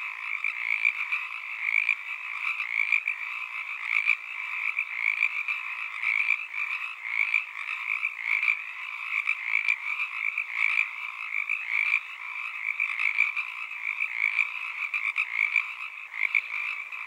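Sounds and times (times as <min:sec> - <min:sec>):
chorus of frogs calling: 0:00.0 - 0:17.0.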